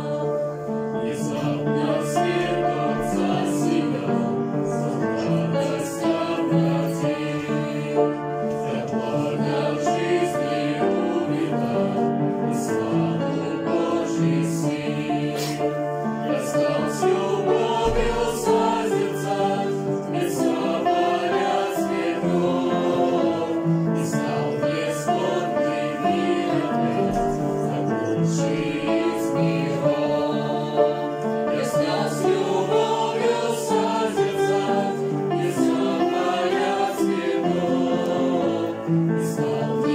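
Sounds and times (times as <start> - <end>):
mixed choir singing a hymn: 0.0 - 39.9
piano: 0.0 - 39.9.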